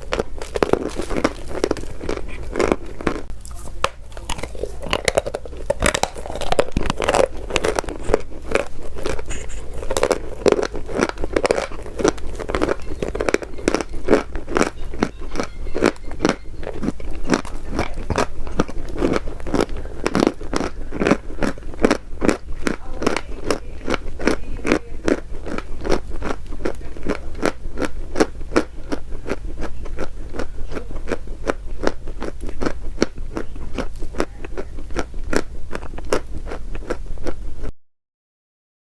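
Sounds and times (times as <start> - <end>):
chalk crunching: 0.0 - 37.4.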